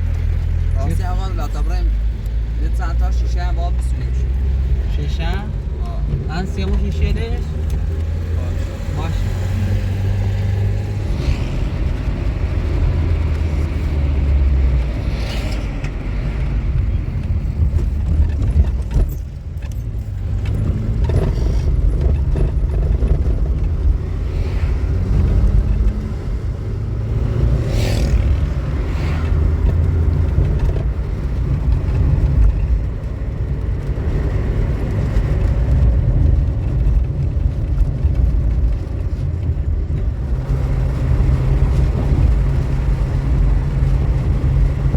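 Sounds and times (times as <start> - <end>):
vehicle engine and road rumble: 0.0 - 44.9.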